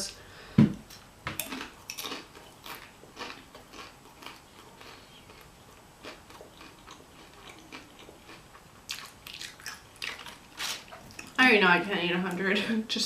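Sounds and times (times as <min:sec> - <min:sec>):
person chewing food: 0:00.9 - 0:11.4.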